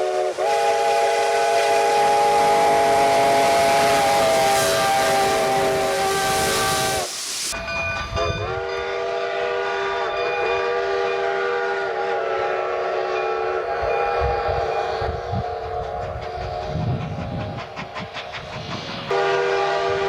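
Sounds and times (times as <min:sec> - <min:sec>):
loud steam hiss: 0:00.0 - 0:07.8, 0:08.5 - 0:20.0
steam chime whistle: 0:00.0 - 0:16.5, 0:19.1 - 0:20.0.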